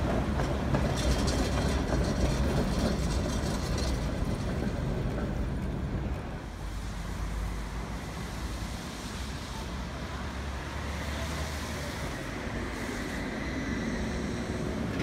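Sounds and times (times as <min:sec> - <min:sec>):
traffic noise: 0:00.0 - 0:15.0
tram approaching: 0:00.0 - 0:15.0.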